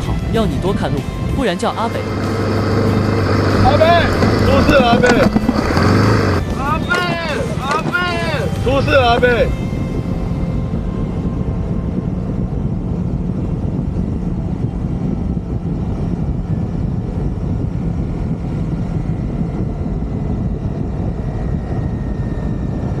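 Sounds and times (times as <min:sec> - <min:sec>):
wind rushing on microphone: 0:00.0 - 0:23.0
motorcycle engine running: 0:01.6 - 0:23.0.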